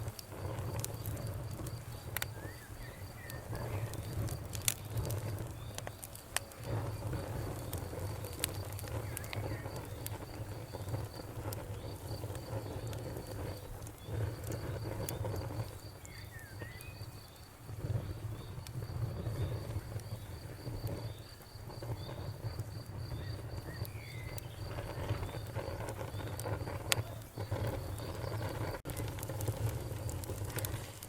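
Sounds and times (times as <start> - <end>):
wood fire crackling and popping: 0.0 - 31.0
cricket chirping: 0.1 - 28.8.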